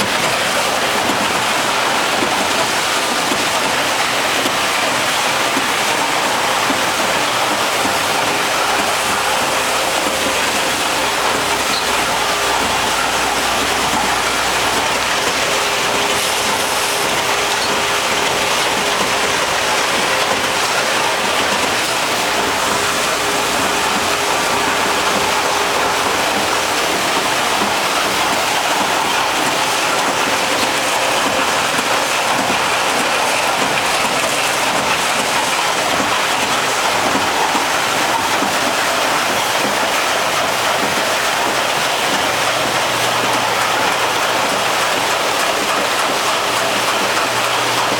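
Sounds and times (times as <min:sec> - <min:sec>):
conveyor machinery running: 0:00.0 - 0:47.9.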